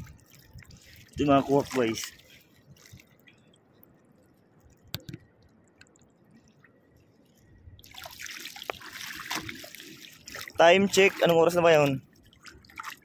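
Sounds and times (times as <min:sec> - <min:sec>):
seawater trickling and dripping: 0:00.0 - 0:13.0
water splashing: 0:00.0 - 0:13.0.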